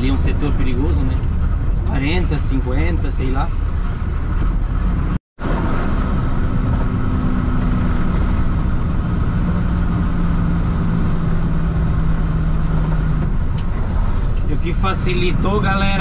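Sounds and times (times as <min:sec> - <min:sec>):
vehicle engine and road drone: 0:00.0 - 0:16.0.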